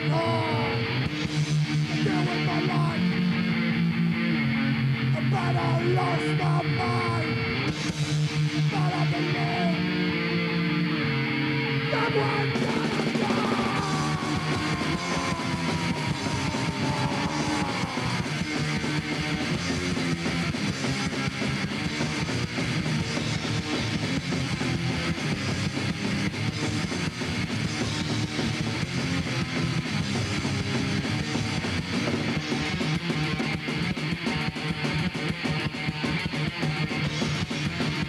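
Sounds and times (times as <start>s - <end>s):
bass guitar: 0.0s - 38.0s
distorted electric guitar: 0.0s - 38.0s
drums: 0.0s - 38.0s.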